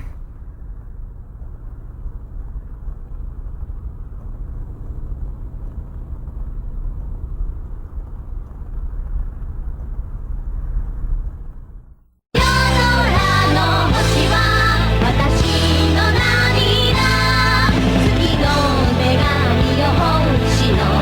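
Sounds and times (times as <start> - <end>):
low steady rumbling: 0.0 - 21.0.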